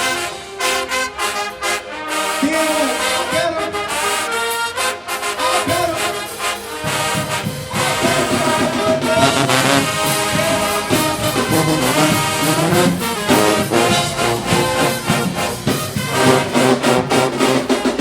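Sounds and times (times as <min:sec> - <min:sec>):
low brass: 0:00.0 - 0:18.0
marching band brass playing: 0:00.0 - 0:18.0.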